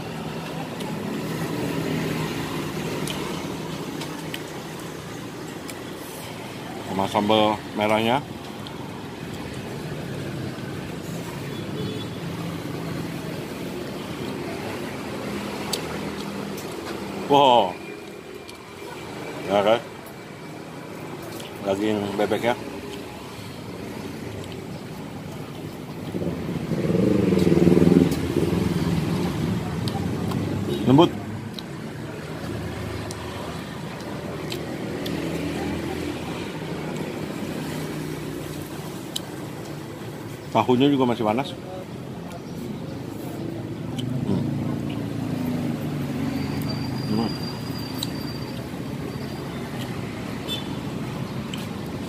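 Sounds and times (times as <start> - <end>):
road traffic passing: 0.0 - 52.0
vehicle engines humming: 0.0 - 52.0.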